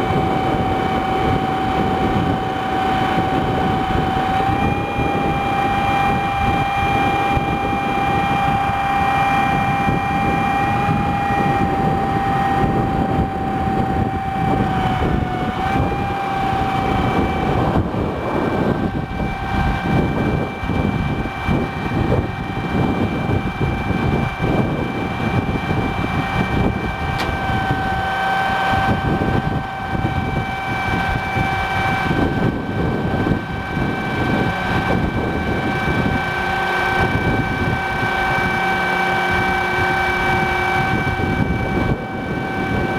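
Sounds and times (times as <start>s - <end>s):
crane truck engine rumbling: 0.0s - 42.9s.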